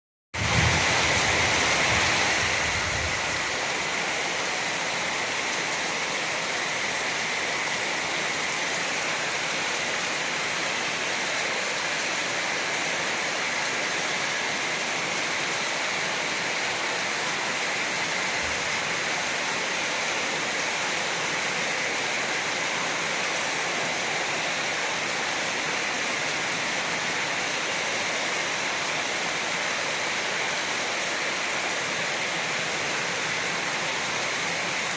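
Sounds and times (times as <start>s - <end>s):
steady rain falling: 0.4s - 34.9s.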